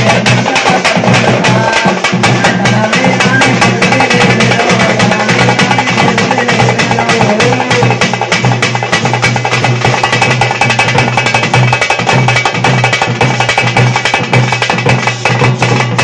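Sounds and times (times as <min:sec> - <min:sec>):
barrel drum: 0:00.0 - 0:16.0
bass drum: 0:00.0 - 0:16.0
frame drums beaten with sticks: 0:00.0 - 0:16.0.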